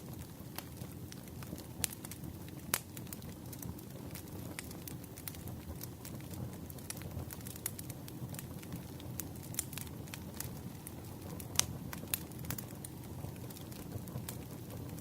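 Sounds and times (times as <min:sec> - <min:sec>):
burning wood crackling: 0:00.0 - 0:15.0
campfire flames rumbling: 0:00.0 - 0:15.0.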